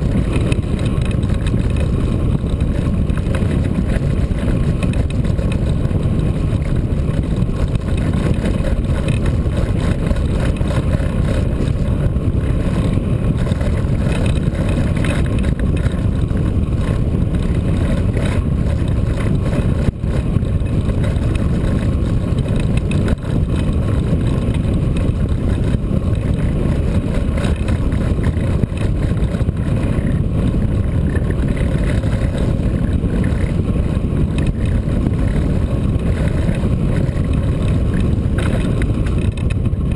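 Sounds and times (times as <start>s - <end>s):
wind roaring over microphone: 0.0s - 39.9s.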